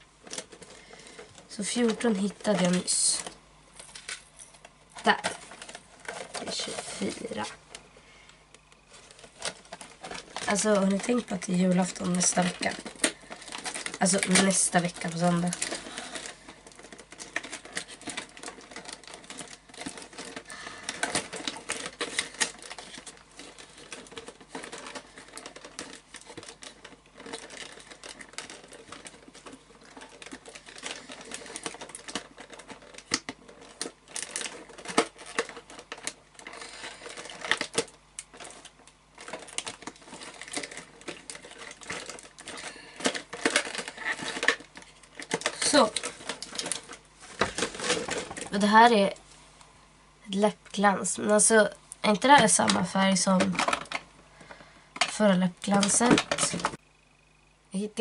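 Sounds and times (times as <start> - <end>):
packaging crinkling rustles: 0.0 - 49.3, 50.4 - 57.4.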